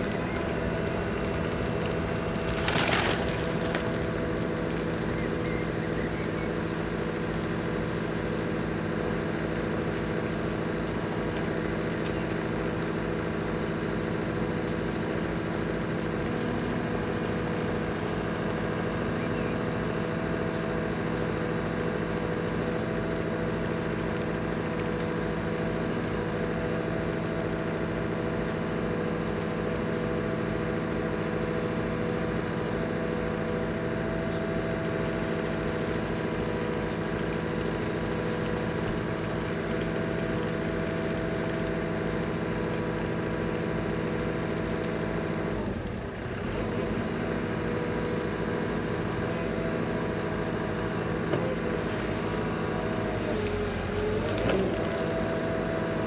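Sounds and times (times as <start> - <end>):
heavy machinery engine humming: 0.0 - 56.0.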